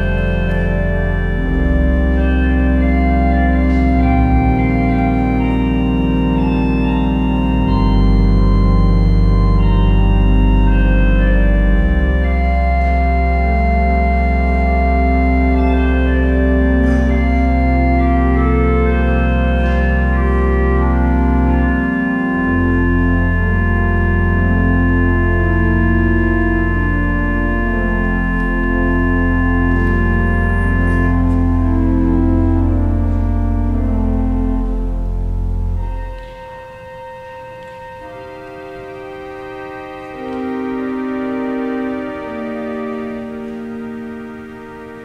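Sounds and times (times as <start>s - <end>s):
pipe organ playing chords: 0.0s - 45.0s.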